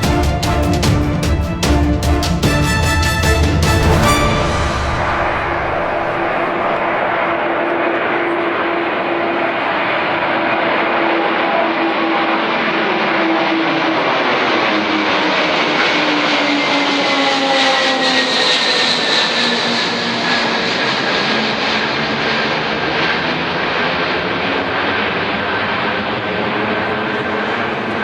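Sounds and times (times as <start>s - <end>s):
aircraft engines whining: 0.0s - 28.0s.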